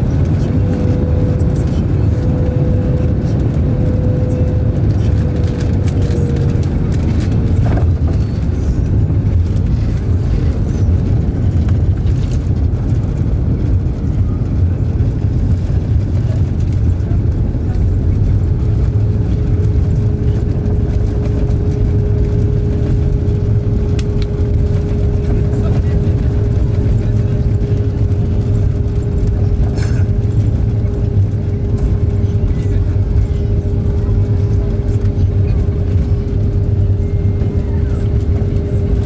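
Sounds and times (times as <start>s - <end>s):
jet engine and airflow rumble: 0.0s - 39.0s
steady whine: 0.0s - 39.0s.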